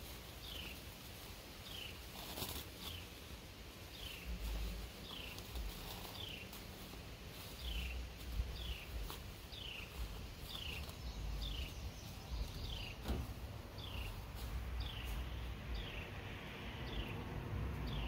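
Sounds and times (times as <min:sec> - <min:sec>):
low uneven rumble: 0:00.0 - 0:18.0.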